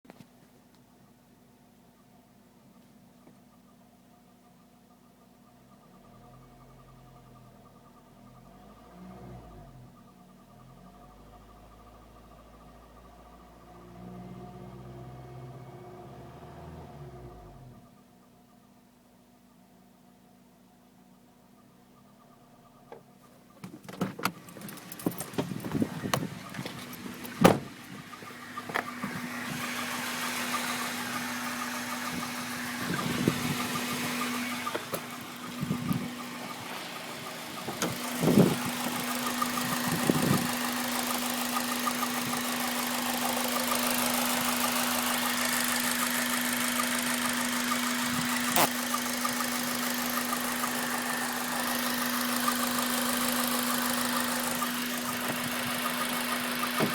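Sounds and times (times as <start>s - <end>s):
car engine humming: 0.1s - 56.9s
engine rattle: 1.3s - 15.6s, 21.1s - 56.9s.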